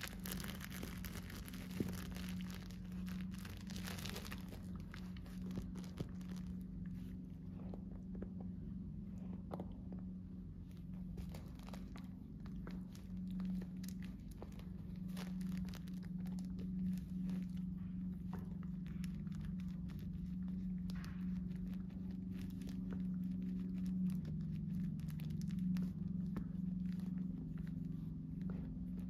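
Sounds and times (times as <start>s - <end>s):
dog chewing crinkly material: 0.0s - 29.0s
steady low hum: 0.0s - 29.0s.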